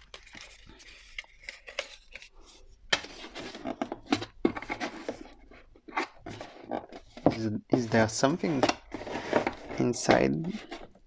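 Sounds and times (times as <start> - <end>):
paper packaging rustling: 0.0 - 11.0.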